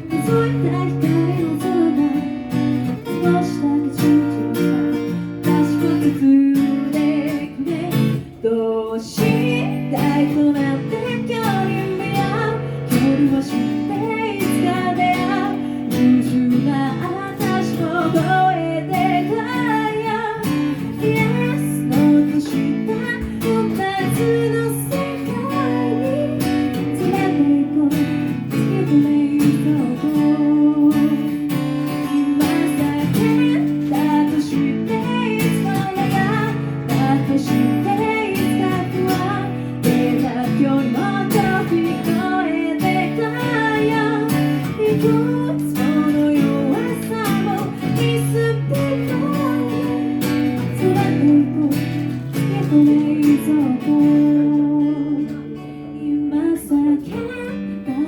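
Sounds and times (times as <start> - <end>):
person singing: 0.0 - 58.0
strummed acoustic guitar: 0.0 - 58.0.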